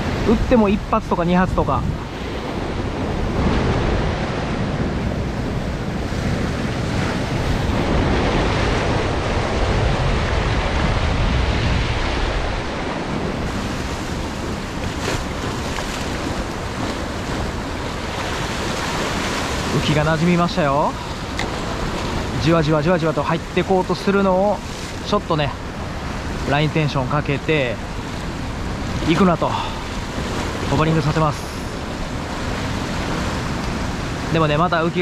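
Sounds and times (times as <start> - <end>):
ocean swell breaking over rocks: 0.0 - 35.0
wind buffeting microphone: 0.0 - 35.0.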